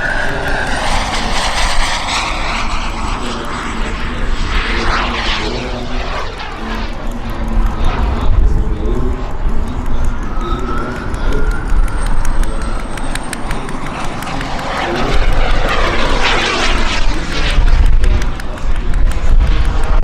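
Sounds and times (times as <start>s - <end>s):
jet turbine whine: 0.0s - 20.0s
model jet roar passing overhead: 0.0s - 20.0s
wind rumble on microphone: 0.0s - 20.0s.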